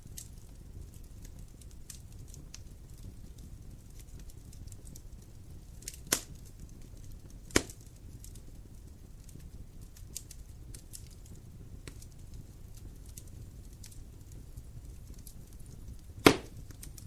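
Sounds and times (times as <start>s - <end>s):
fire pops: 0.0s - 17.0s
wood fire crackling: 0.0s - 17.0s.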